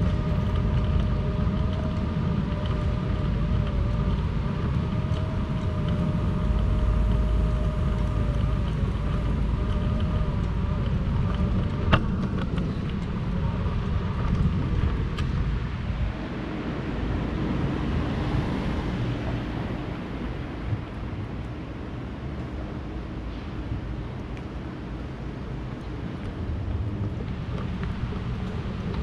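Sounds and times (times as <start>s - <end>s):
traffic rumble: 0.0s - 29.0s
wind on microphone: 0.0s - 29.0s.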